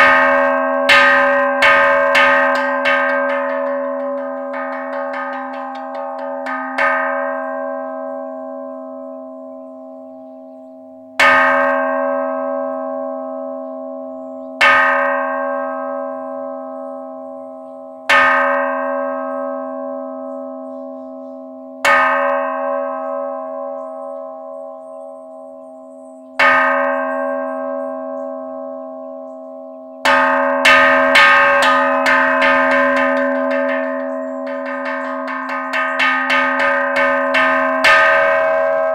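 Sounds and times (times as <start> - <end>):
bronze bowl bell ringing: 0.0 - 38.9.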